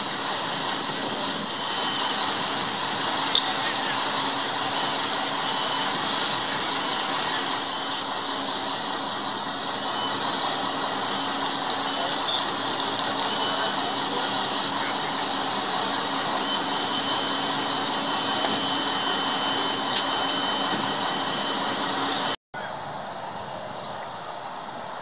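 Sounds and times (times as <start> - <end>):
fire engines running: 0.0 - 25.0.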